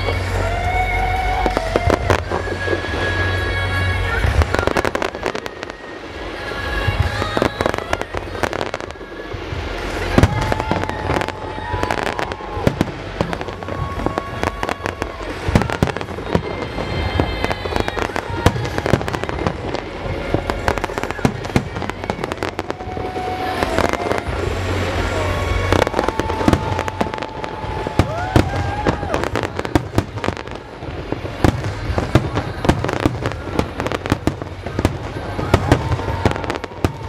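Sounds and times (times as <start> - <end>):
fireworks bursting and crackling: 0.0 - 37.0
music with held notes: 0.0 - 37.0.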